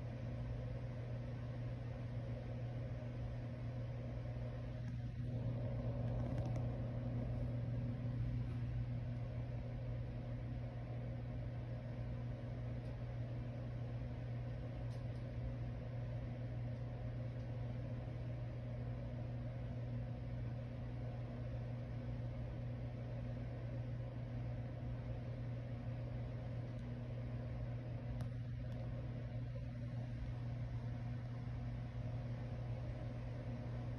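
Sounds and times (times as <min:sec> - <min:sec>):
electric fan running: 0:00.0 - 0:33.9.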